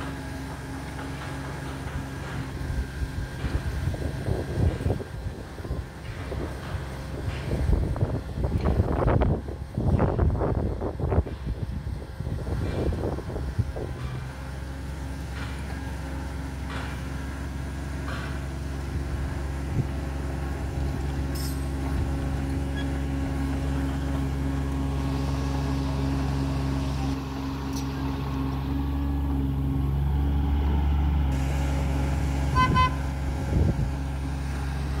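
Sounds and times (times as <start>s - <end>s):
mini excavator diesel engine running: 0.0s - 35.0s.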